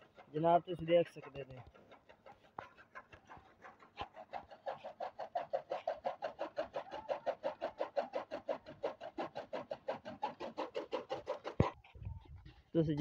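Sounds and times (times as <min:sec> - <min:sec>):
chaff cutter chopping fodder: 0:00.0 - 0:11.8.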